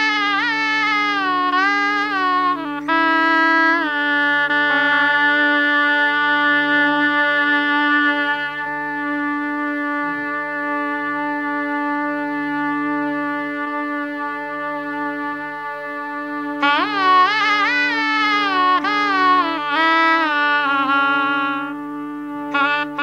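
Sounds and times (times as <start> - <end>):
shehnai holding long note: 0.0 - 23.0.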